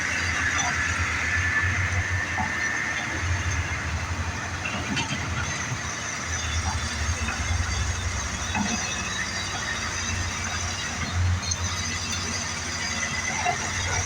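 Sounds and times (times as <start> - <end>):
excavator engine drone: 0.0 - 14.0.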